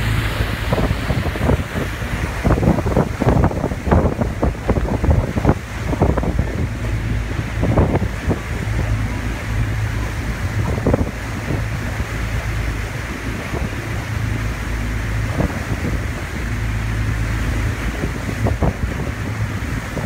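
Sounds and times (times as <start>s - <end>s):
boat engine humming: 0.0s - 20.0s
sea wash: 0.0s - 20.0s
wind buffeting microphone: 0.0s - 20.0s.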